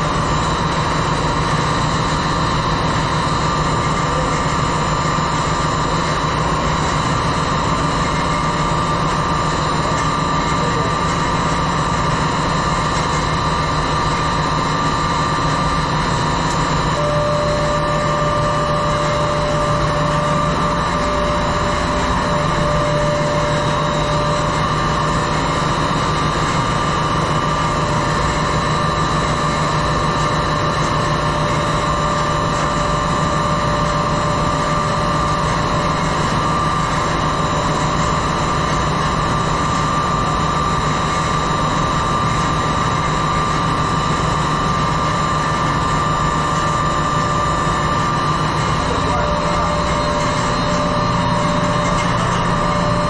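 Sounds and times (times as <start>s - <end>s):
engine-room machinery roar: 0.0s - 53.0s
mechanical hums and whines: 0.0s - 53.0s.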